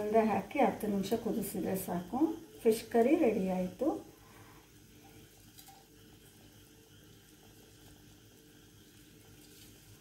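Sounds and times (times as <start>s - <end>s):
faint steady hum: 0.0s - 10.0s
curry simmering in a pan: 0.8s - 10.0s.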